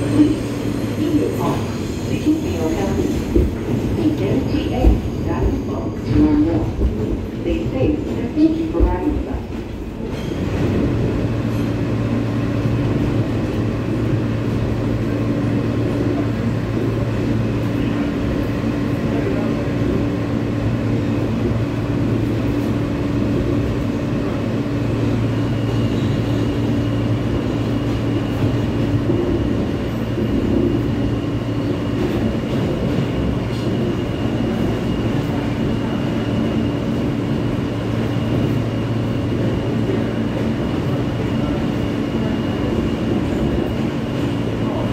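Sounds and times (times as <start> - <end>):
wheels rumbling on rail: 0.0 - 44.9.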